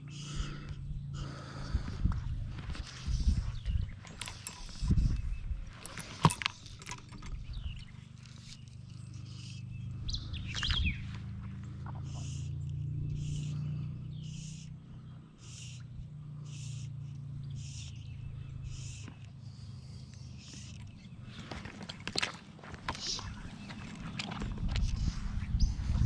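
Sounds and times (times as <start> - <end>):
bird calling: 0.0 - 26.0
low steady hum: 0.0 - 26.0.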